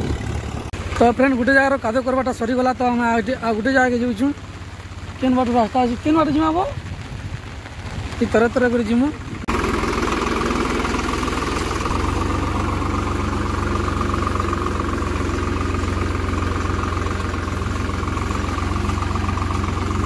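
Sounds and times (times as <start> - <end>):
steel wheels rolling: 0.0 - 20.0
tractor diesel engine running: 0.0 - 20.0.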